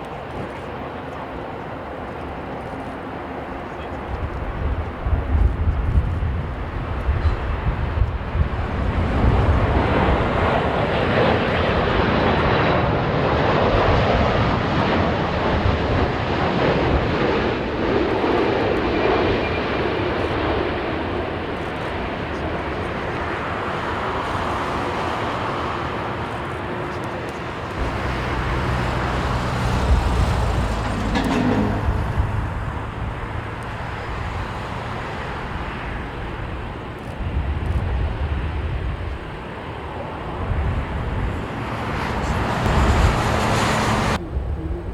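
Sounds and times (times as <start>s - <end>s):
jet airliner engine noise: 0.0s - 44.9s
wind buffeting microphone: 0.0s - 44.9s.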